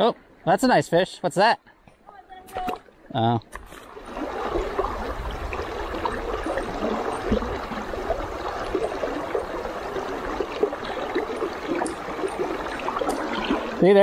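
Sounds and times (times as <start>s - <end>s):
stream running over stones: 2.5s - 14.0s.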